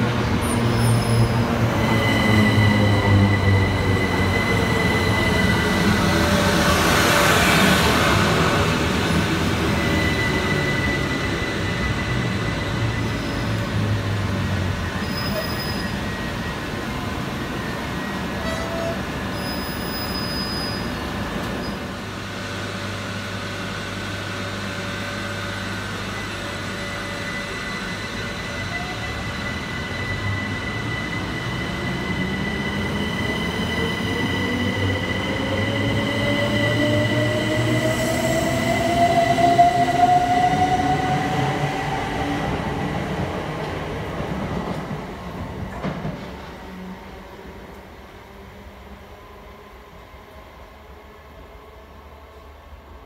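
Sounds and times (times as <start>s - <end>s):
electric train high whine: 0.0s - 53.0s.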